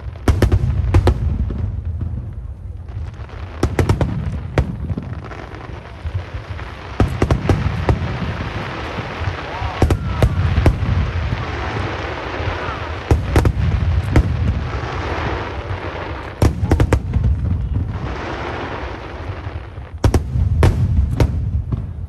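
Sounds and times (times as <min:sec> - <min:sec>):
fireworks bursting: 0:00.0 - 0:22.0
fireworks rumble and crackle: 0:00.0 - 0:22.0.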